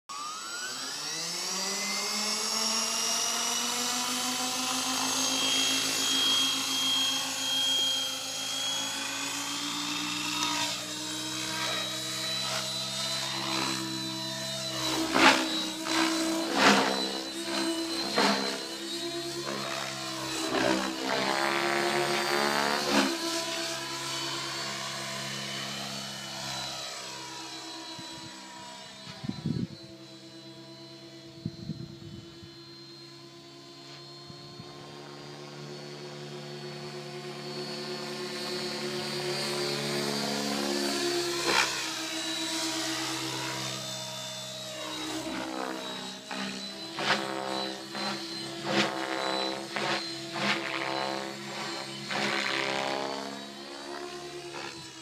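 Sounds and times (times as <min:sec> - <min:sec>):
rc helicopter motor and rotor whine: 0:00.1 - 0:55.0.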